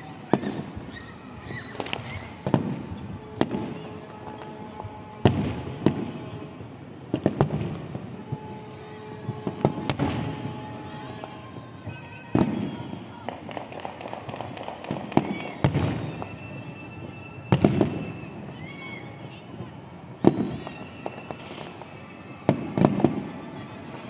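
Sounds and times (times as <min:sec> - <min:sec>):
firework shells bursting: 0:00.0 - 0:18.5, 0:20.2 - 0:23.4.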